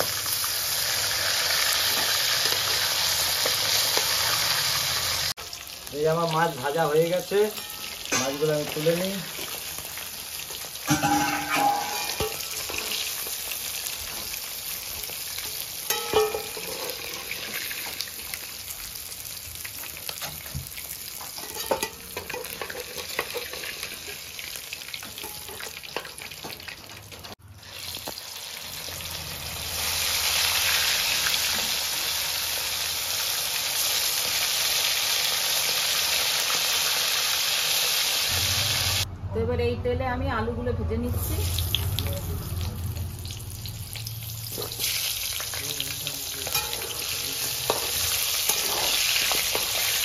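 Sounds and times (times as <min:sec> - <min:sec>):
potatoes frying in oil: 0:00.0 - 0:39.0, 0:41.2 - 0:50.0
fish sizzling in hot oil: 0:00.0 - 0:39.1, 0:41.2 - 0:50.0.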